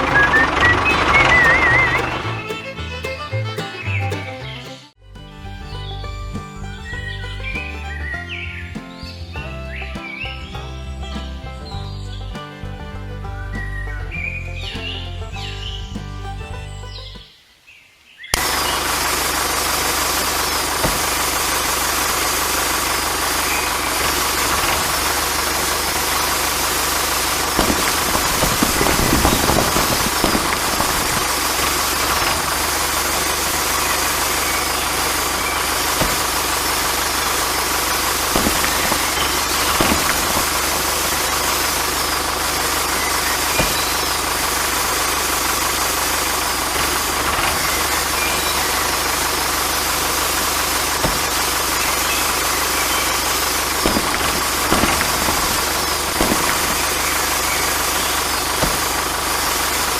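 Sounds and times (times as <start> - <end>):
small engine running: 0.0 - 9.6, 18.4 - 59.9.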